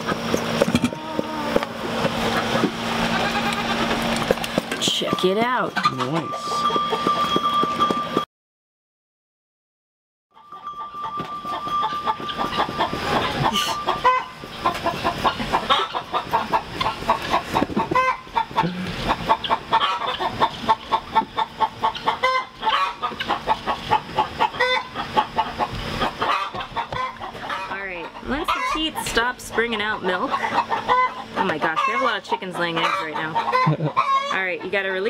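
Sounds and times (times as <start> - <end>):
hens cackling: 0.0 - 7.3, 10.4 - 35.0.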